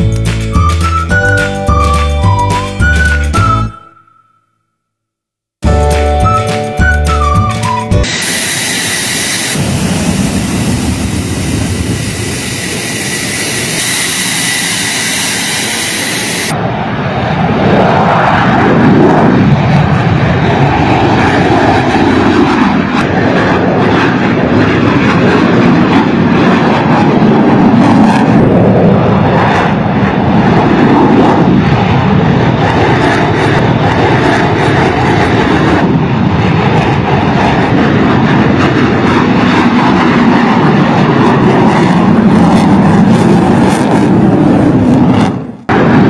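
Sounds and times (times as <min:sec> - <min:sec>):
jet engine whine: 0:06.2 - 0:46.0
jets flying past: 0:08.0 - 0:46.0.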